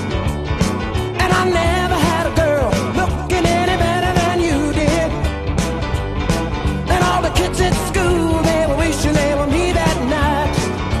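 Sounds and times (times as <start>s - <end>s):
song with steady beat: 0.0s - 11.0s.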